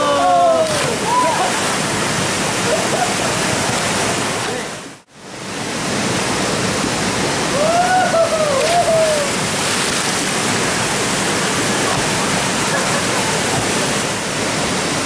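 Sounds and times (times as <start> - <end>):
whitewater rushing in river: 0.0 - 15.0.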